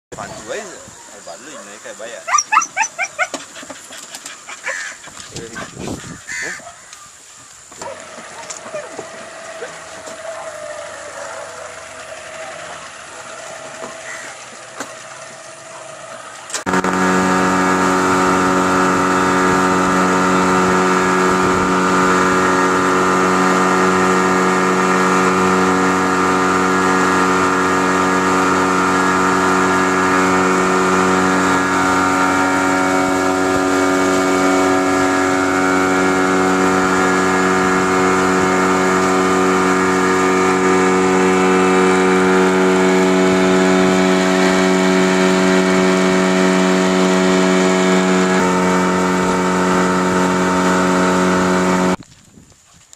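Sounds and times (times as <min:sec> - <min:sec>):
outboard motor running: 0:00.1 - 0:52.0.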